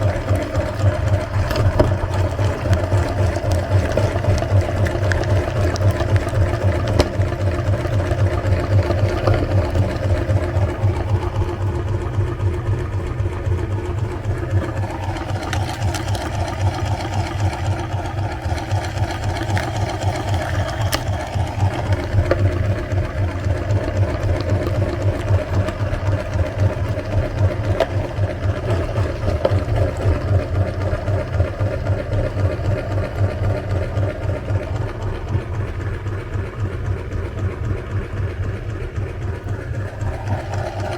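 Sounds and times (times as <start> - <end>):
meat grinder running: 0.0 - 40.9.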